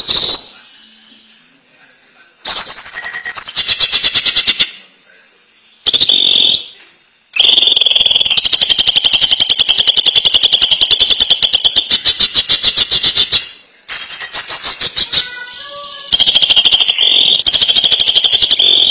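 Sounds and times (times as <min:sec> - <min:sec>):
bird song with fast rattle: 0:02.4 - 0:04.8, 0:05.8 - 0:18.9.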